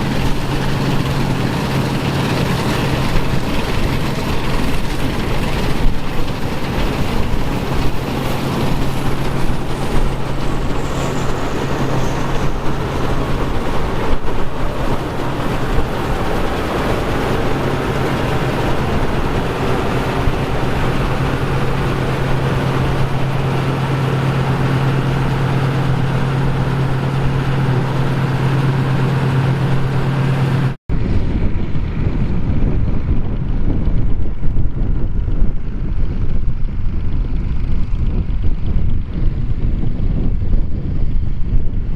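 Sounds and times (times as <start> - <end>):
tractor diesel engine running: 0.0 - 41.9
wind on microphone: 0.0 - 41.9.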